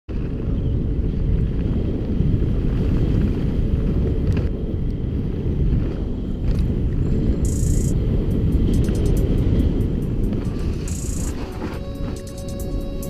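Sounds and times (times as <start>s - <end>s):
bike tyre rumble: 0.1s - 13.0s
wind buffeting microphone: 0.1s - 13.0s.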